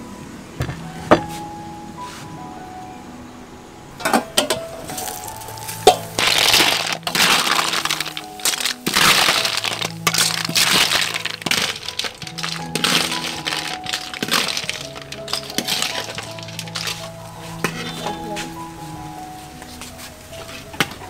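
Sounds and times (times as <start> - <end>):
crackling and sizzling: 4.0 - 21.0.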